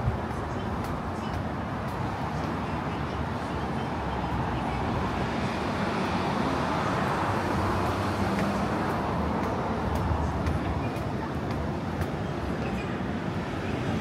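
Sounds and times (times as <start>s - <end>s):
city road traffic: 0.0s - 14.0s.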